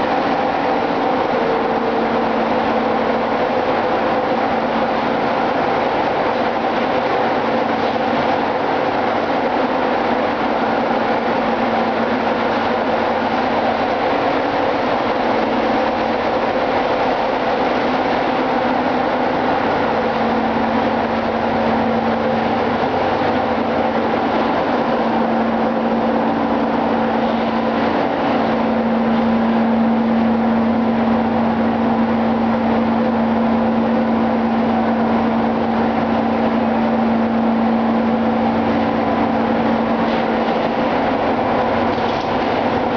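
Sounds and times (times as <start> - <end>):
engine room machinery hum: 0.0 - 42.9.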